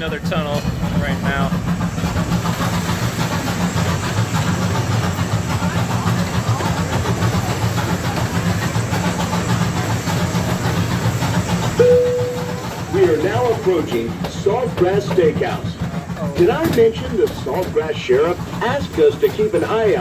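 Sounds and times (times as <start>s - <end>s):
passenger chatter: 0.0s - 20.0s
train wheels rumbling: 0.0s - 20.0s.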